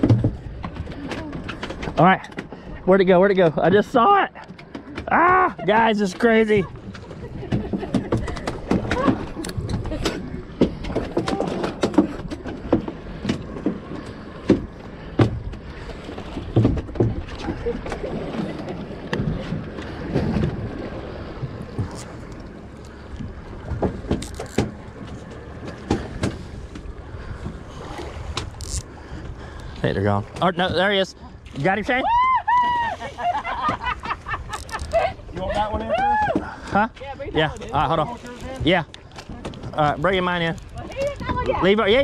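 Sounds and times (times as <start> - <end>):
water sloshing against hull: 0.0 - 42.0.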